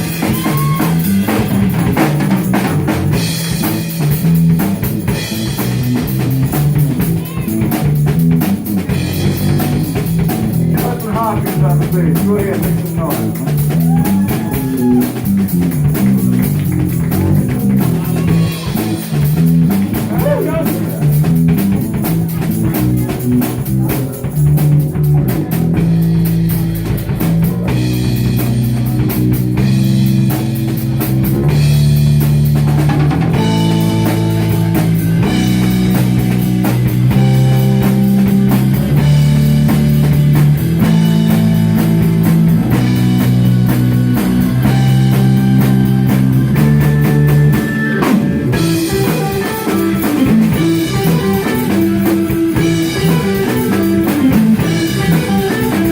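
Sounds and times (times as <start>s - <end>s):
drum kit: 0.0s - 55.9s
electric guitar chords: 0.0s - 55.9s.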